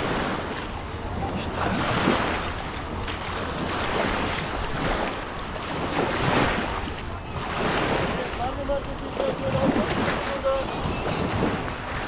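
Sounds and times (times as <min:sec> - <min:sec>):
sea waves washing on beach: 0:00.0 - 0:12.0
wind buffeting microphone: 0:00.0 - 0:12.0.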